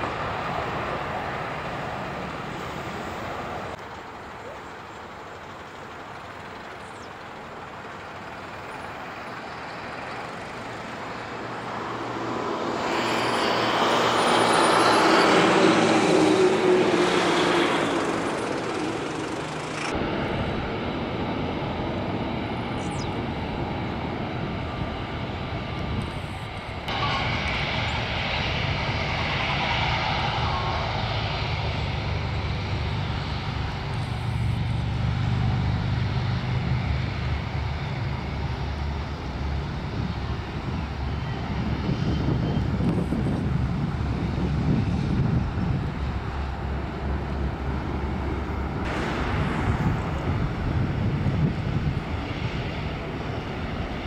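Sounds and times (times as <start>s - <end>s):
jet engines climbing after takeoff: 0.0s - 54.0s
jet engines rumbling on runway: 0.0s - 54.0s.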